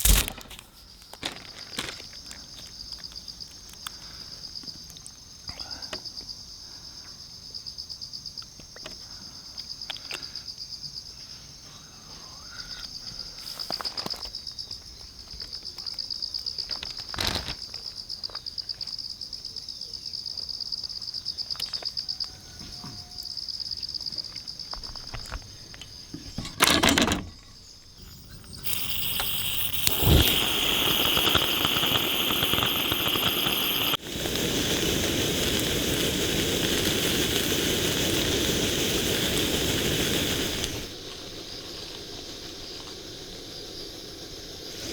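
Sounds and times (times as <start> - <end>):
steady hiss: 0.0 - 7.0, 9.1 - 16.8, 23.3 - 44.9
crickets trilling: 0.0 - 44.9.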